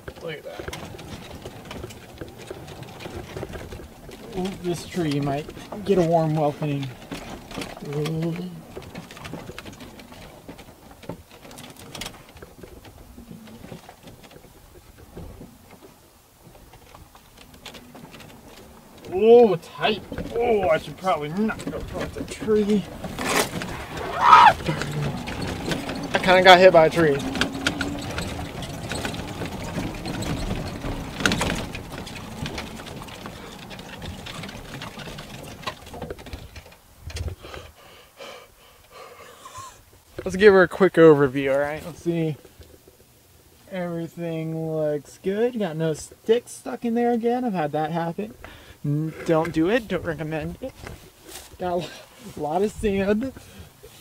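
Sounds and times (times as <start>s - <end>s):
cart body rattling: 0.0s - 37.4s, 40.0s - 43.2s, 49.3s - 54.0s
tyres rumbling on dirt: 0.0s - 37.4s, 39.8s - 54.0s.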